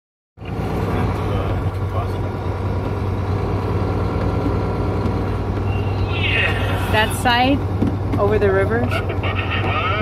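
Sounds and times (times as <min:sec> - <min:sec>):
road noise: 0:00.4 - 0:10.0
truck engine drone: 0:00.4 - 0:10.0.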